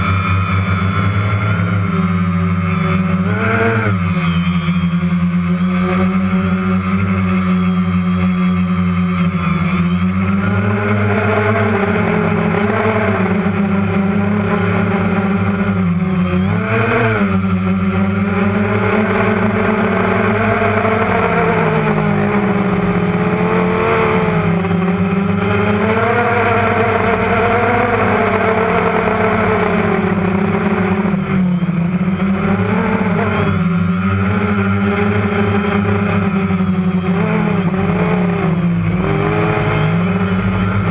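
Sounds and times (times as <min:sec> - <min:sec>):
drone motors and propellers: 0:00.0 - 0:40.9.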